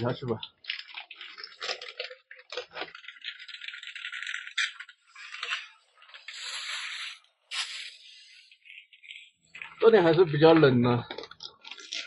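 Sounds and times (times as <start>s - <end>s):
frozen dumplings rattling: 0.0s - 6.7s, 8.6s - 12.0s
plastic bag crinkling: 0.0s - 12.0s.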